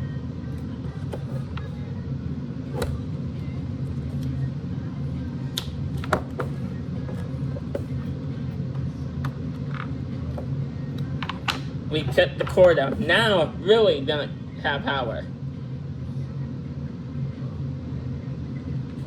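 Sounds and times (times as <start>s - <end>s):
steady low background hum: 0.0s - 19.0s.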